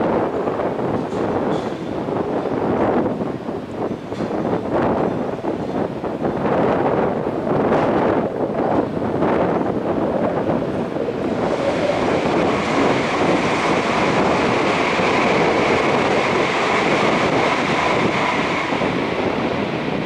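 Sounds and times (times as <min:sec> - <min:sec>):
train rushing rumble: 0:00.0 - 0:20.0.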